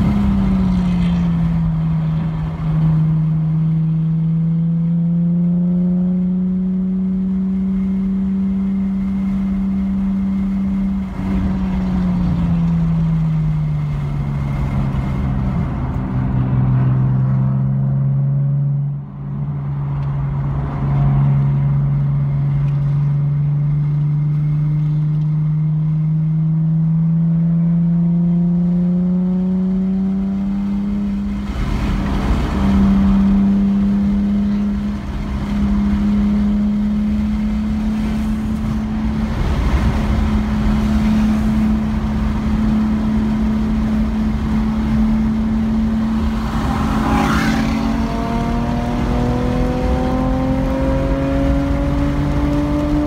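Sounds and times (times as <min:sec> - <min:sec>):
car engine from inside cabin: 0:00.0 - 0:53.0.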